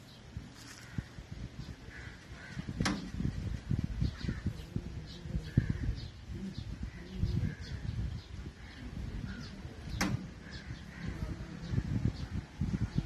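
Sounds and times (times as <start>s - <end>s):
birds chirping: 0.0s - 13.0s
microphone rumble: 0.3s - 13.0s.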